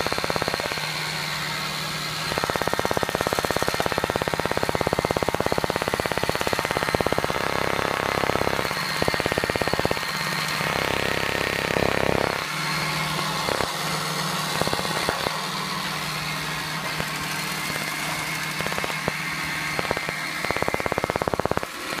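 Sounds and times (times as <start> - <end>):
fast rattle: 0.0 - 22.0
robot vacuum motor whirring: 0.0 - 22.0.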